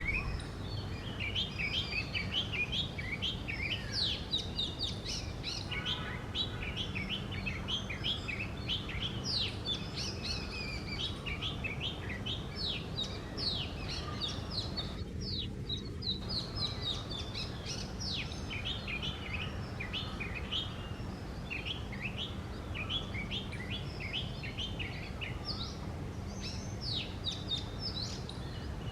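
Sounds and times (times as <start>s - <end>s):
bird singing whistles and chirps: 0.0s - 28.9s
steady low hum: 0.0s - 28.9s.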